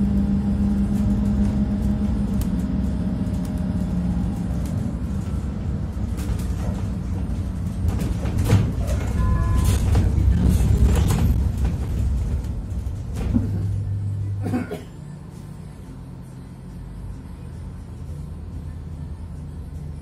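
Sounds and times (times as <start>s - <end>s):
minibus engine running: 0.0s - 20.0s
rattles inside bus cabin: 0.0s - 20.0s.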